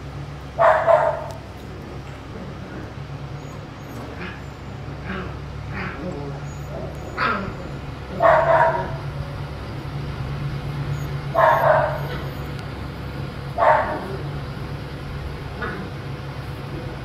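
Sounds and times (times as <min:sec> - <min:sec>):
puppies barking: 0:00.5 - 0:10.0, 0:10.7 - 0:17.0.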